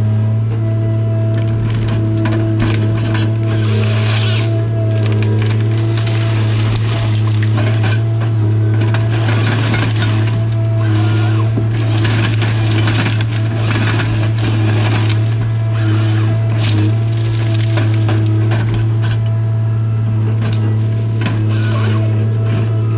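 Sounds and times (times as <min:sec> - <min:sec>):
harvester engine droning: 0:00.0 - 0:22.9
wood and branches cracking: 0:01.3 - 0:19.4, 0:20.3 - 0:22.9.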